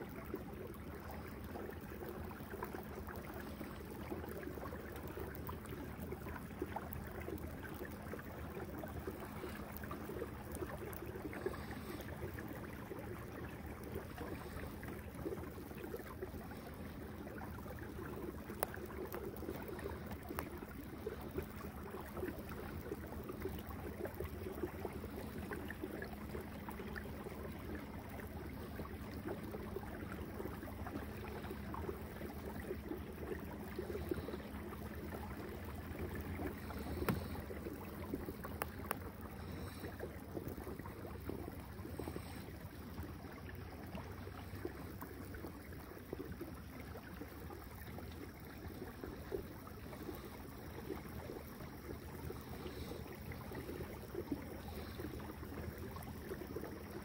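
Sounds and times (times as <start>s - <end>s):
water gurgling along a hull: 0.0s - 57.0s.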